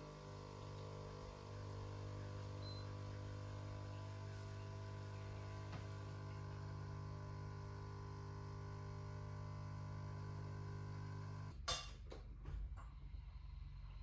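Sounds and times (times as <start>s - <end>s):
espresso machine pump humming: 0.0s - 11.5s.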